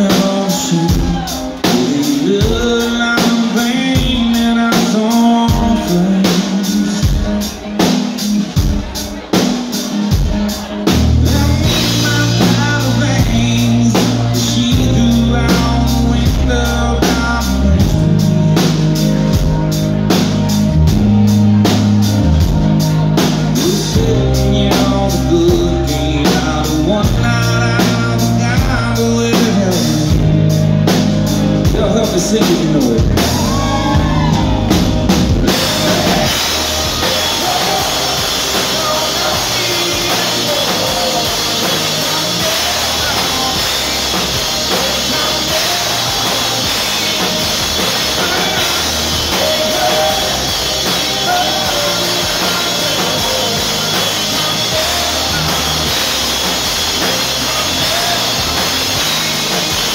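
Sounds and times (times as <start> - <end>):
country-rock band playing: 0.0 - 59.9
drum-kit beat: 0.0 - 59.9.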